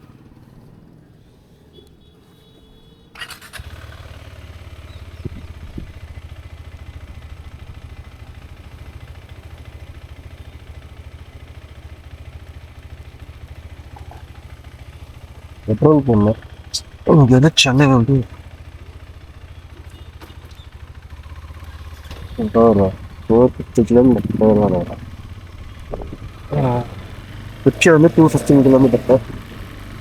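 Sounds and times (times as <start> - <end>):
motorcycle engine starting and idling: 0.0 - 30.0.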